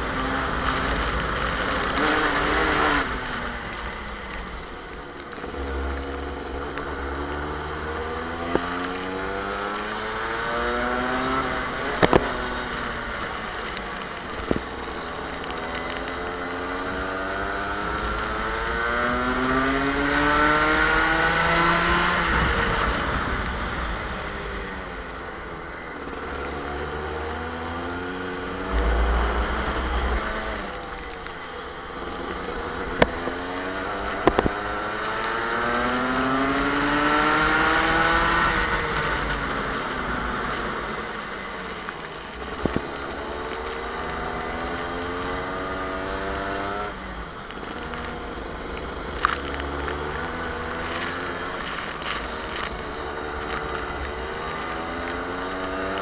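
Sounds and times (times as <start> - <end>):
two-stroke kart engine revving: 0.0 - 4.8, 5.4 - 56.0.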